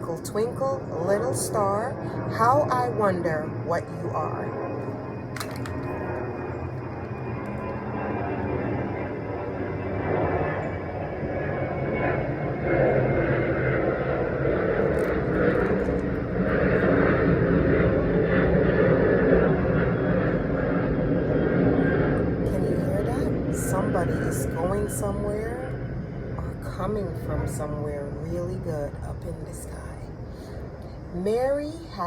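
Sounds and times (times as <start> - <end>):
airplane flying overhead: 0.0 - 32.0.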